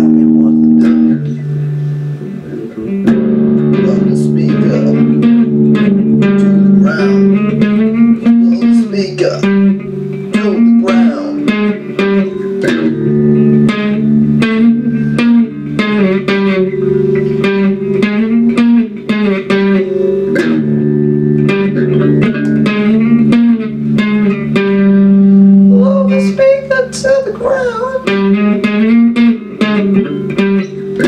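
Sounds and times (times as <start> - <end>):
electric guitar playing rock: 0.0 - 31.0.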